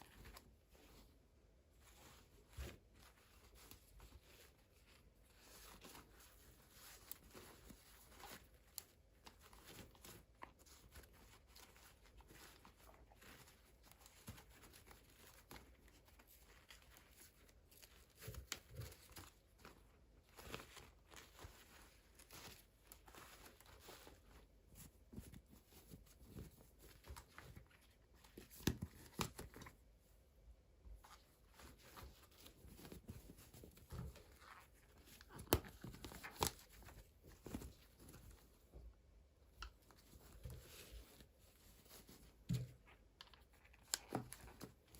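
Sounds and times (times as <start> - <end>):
plastic and paper crinkling: 0.0 - 30.2, 30.8 - 44.9.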